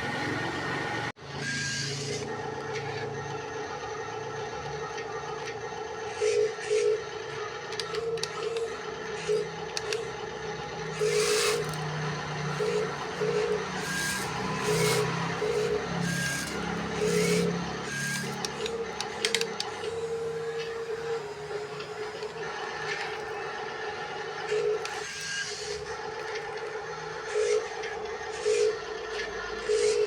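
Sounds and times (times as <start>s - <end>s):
electric motors whirring: 0.0s - 30.0s.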